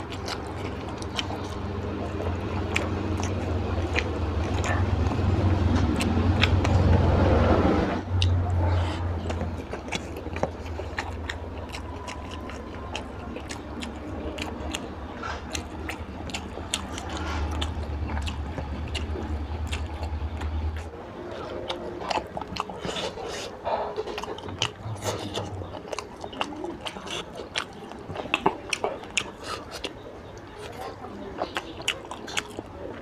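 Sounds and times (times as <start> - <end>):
crunching of food: 0.0 - 33.0
wet chewing and lip smacking: 0.0 - 33.0.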